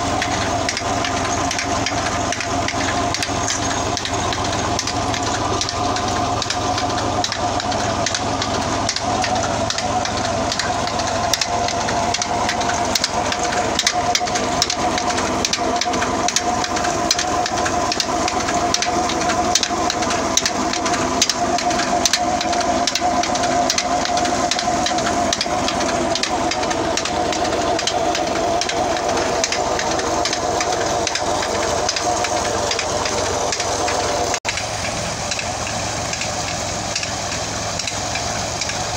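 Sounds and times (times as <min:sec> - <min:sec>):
dense crackling rattle: 0:00.0 - 0:38.9
tractor engine humming: 0:00.0 - 0:38.9.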